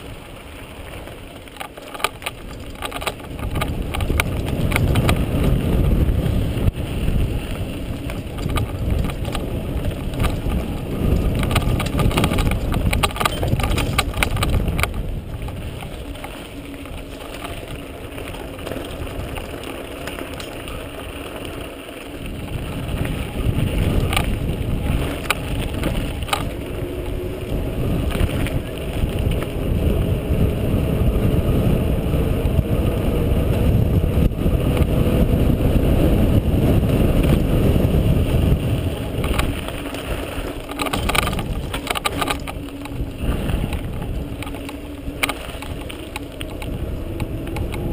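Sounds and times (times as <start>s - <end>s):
bike rattling and knocking: 0.0s - 47.9s
tyres rolling on dirt: 0.0s - 47.9s
wind rushing over microphone: 0.0s - 47.9s.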